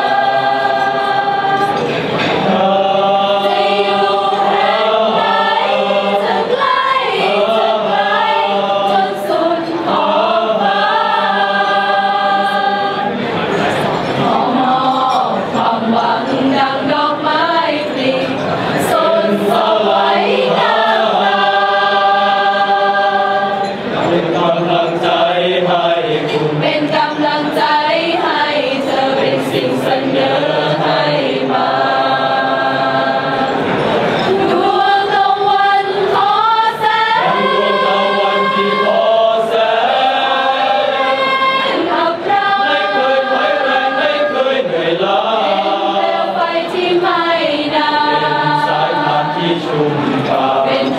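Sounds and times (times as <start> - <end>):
choir singing in harmony: 0.0 - 50.9.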